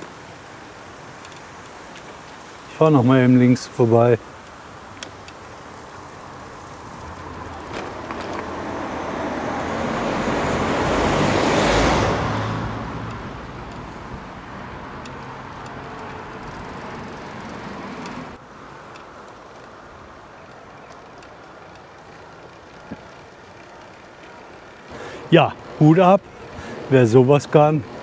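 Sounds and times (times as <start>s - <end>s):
motor vehicle passing: 0.0s - 28.0s
steady background noise: 0.0s - 28.0s.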